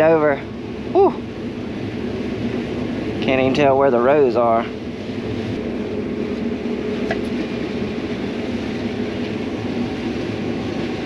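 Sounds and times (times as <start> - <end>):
combine harvester rumbling: 0.0 - 11.0.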